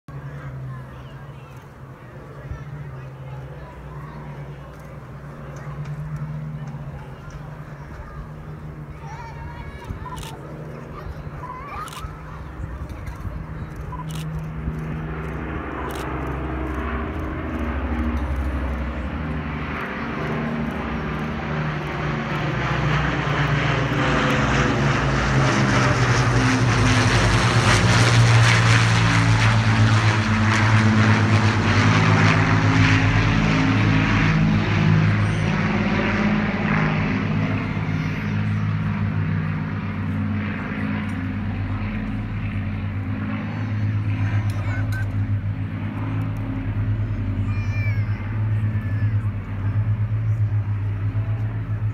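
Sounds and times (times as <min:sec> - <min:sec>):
propeller planes droning overhead: 0:00.1 - 0:51.9.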